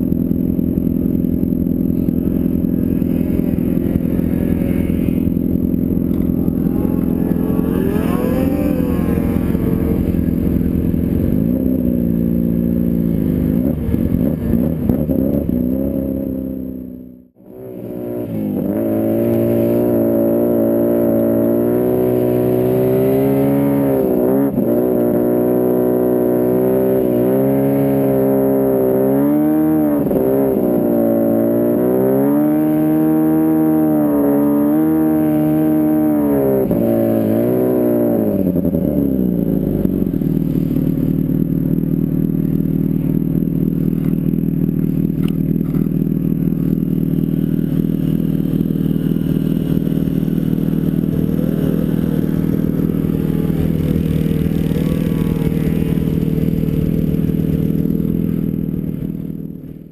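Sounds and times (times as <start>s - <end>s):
snowmobile engine revving: 2.1s - 16.4s, 17.4s - 41.2s, 45.3s - 58.6s.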